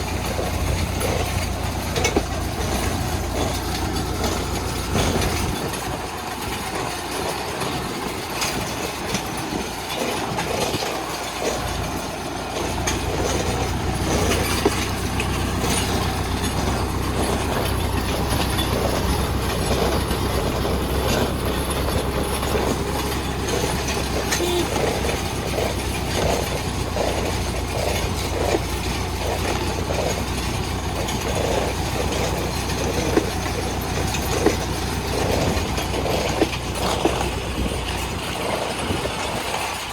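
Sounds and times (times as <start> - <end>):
metallic rattle from implement: 0.0 - 39.9
tractor engine running: 0.0 - 39.9.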